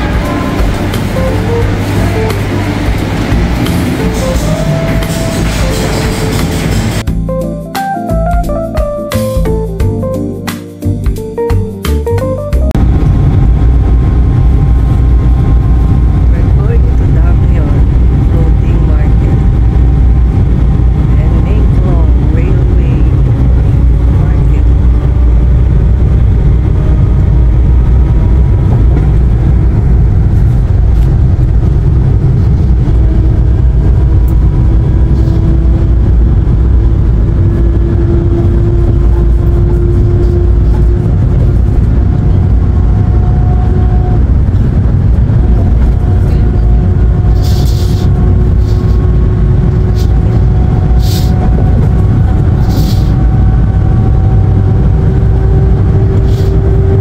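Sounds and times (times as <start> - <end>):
van road and engine rumble: 0.0 - 10.3, 10.9 - 57.0.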